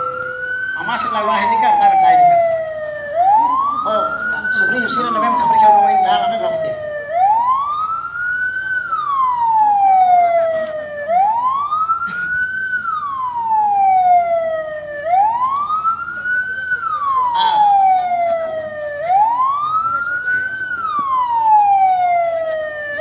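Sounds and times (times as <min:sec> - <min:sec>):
ambulance siren wailing: 0:00.0 - 0:23.0.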